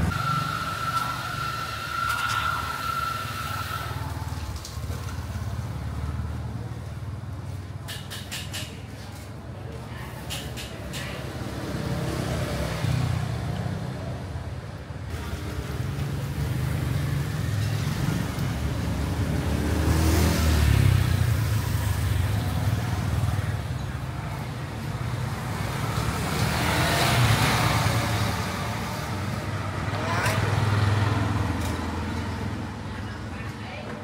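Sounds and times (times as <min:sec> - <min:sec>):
vehicles passing close by: 0:00.0 - 0:34.0.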